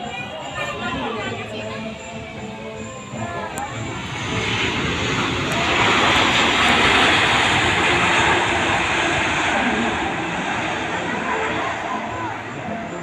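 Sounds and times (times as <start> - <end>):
jet engine roar: 2.2 - 13.0.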